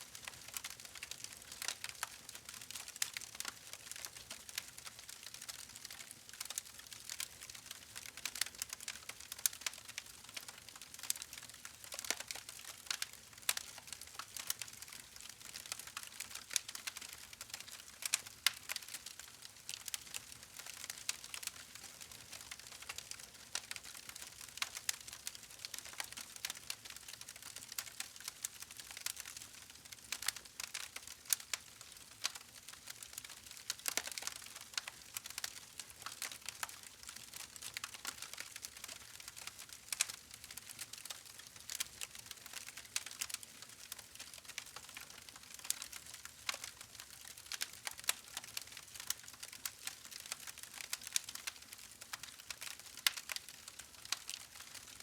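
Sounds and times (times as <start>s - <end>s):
wood fire crackling: 0.1s - 55.0s.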